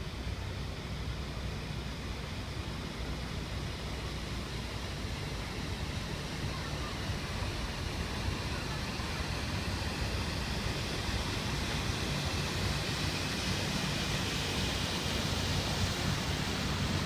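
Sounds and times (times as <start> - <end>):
hiss of churning wake: 0.0 - 17.0
boat engine hum: 0.1 - 17.0.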